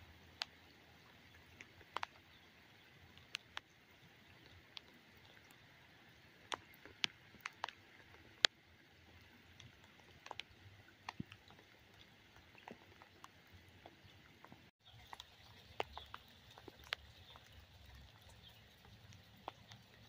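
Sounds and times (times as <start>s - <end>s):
light rain hiss: 0.0s - 20.0s
sharp water drips: 0.0s - 20.0s.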